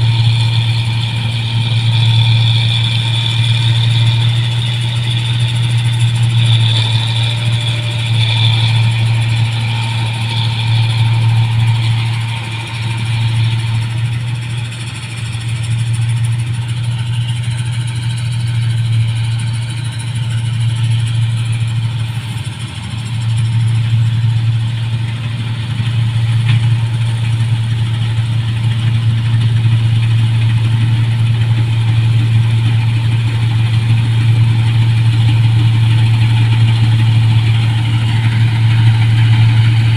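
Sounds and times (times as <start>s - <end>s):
combine harvester engine drone: 0.0s - 39.9s
machinery whine: 0.0s - 39.9s.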